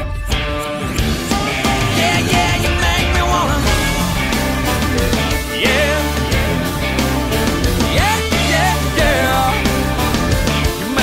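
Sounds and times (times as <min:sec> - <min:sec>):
country-rock band playing: 0:00.0 - 0:11.0.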